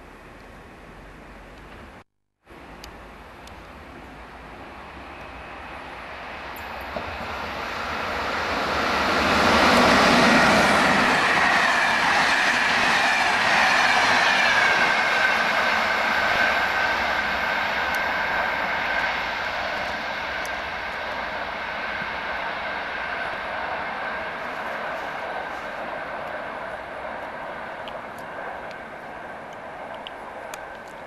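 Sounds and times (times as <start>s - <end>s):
train wheels rumbling on rails: 2.6s - 31.0s.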